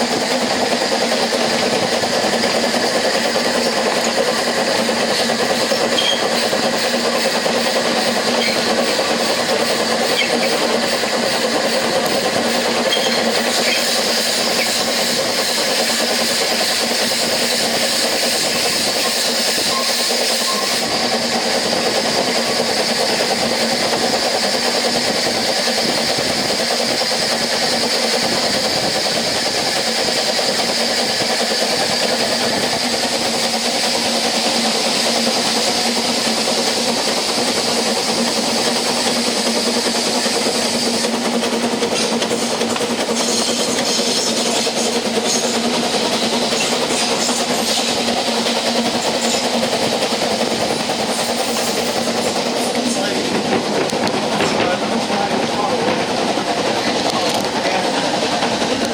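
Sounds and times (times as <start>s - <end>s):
train wheels rolling on rails: 0.0s - 58.9s.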